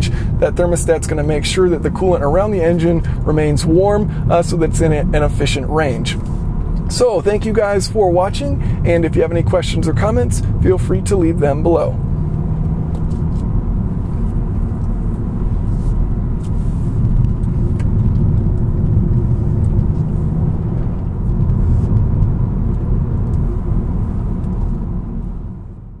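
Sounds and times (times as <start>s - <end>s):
car engine tyre and wind rumble: 0.0s - 26.0s.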